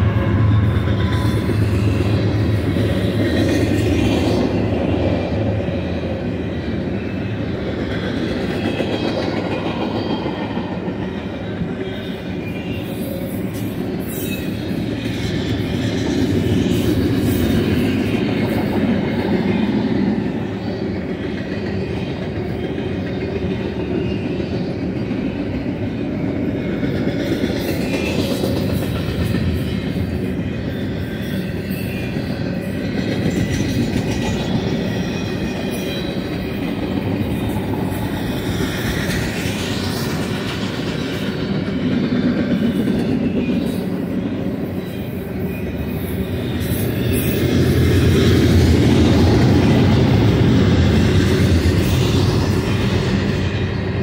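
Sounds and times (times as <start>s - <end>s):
faint high wheel squeal: 0.0s - 4.8s, 5.5s - 54.0s
train wheels on rails: 0.0s - 54.0s.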